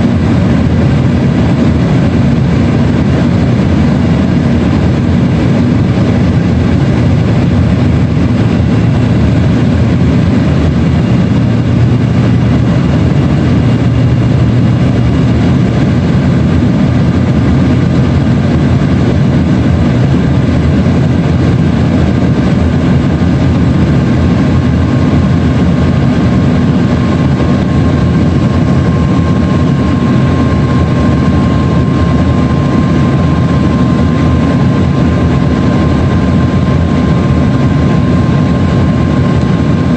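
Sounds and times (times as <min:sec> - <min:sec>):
faint steady whine: 0:00.0 - 0:39.9
jet cabin roar: 0:00.0 - 0:39.9.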